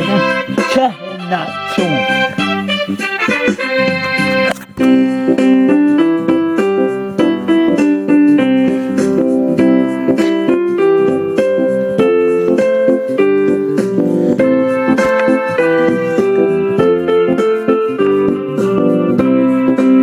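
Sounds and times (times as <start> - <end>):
electronic keyboard playing a tune: 0.0 - 20.0.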